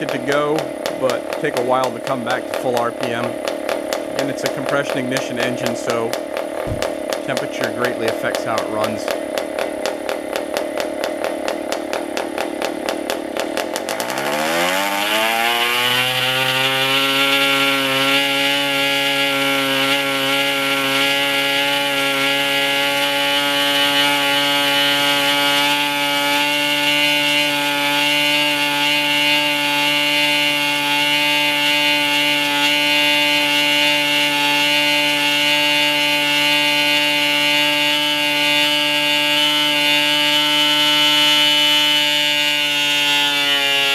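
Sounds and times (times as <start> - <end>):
model diesel engine running: 0.0 - 43.9.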